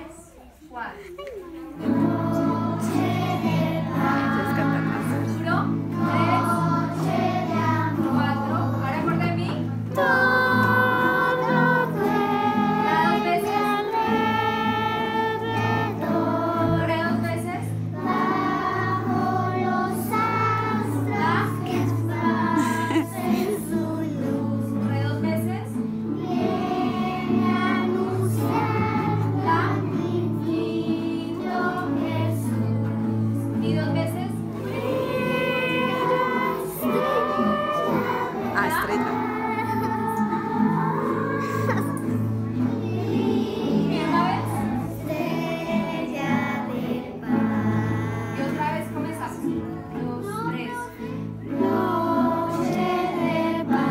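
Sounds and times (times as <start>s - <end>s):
strummed acoustic guitars: 1.6s - 53.9s
children singing in unison: 1.8s - 8.8s, 9.9s - 33.6s, 34.4s - 50.1s, 50.9s - 53.9s.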